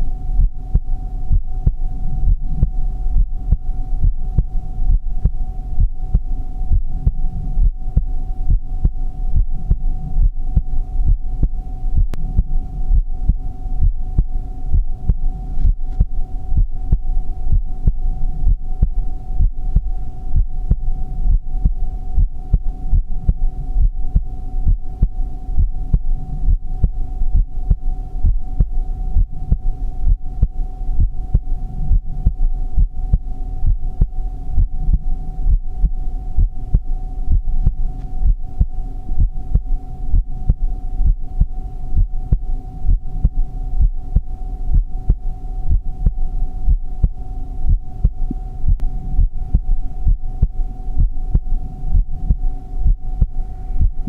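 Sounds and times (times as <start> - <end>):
constant hum: 0.0 - 54.0
heartbeat thuds: 0.0 - 54.0.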